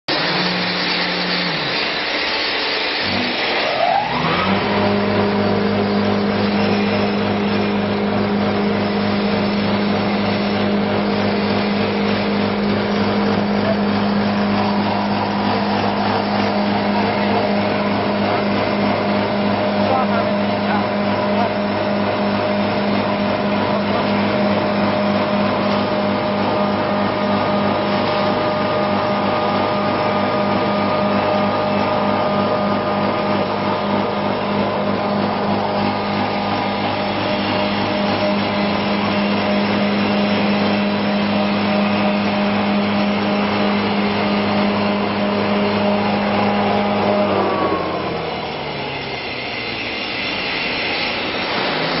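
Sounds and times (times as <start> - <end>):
electric grinder running: 0.1 - 52.0
steady background noise: 0.1 - 52.0.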